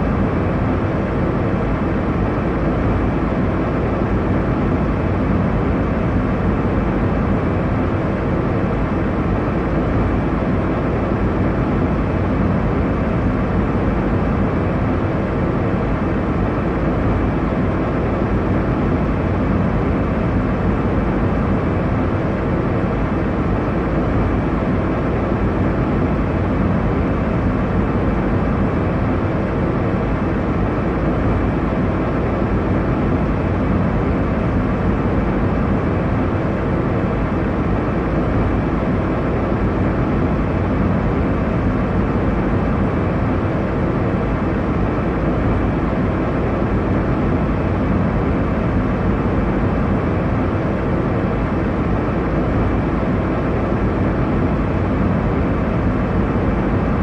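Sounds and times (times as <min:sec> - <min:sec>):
airliner cabin noise in flight: 0:00.0 - 0:57.0.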